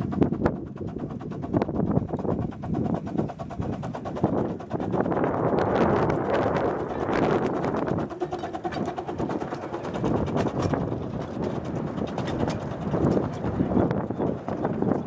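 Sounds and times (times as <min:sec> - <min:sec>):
miniature steam locomotive passing: 0:00.0 - 0:15.0
wheels clattering on rails: 0:00.0 - 0:15.0.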